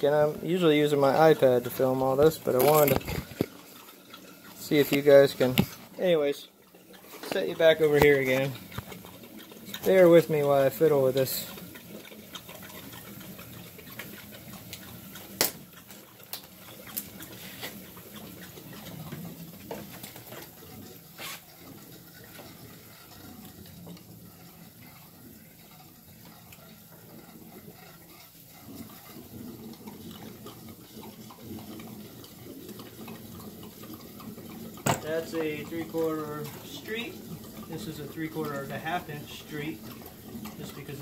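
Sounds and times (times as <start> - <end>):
water churning and bubbling: 0.0 - 41.0.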